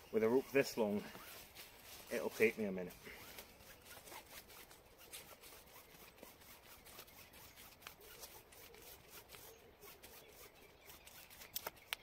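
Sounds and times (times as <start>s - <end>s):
rope rubbing and rustling: 0.0s - 12.0s.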